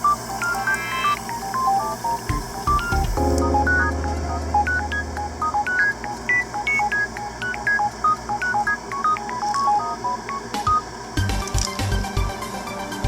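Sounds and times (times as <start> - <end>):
beeping melody music: 0.0 - 10.8.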